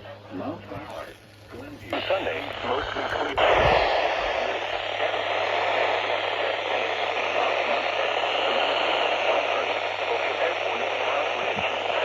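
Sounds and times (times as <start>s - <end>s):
low steady hum: 0.0s - 12.0s
radio static hiss: 0.0s - 12.0s.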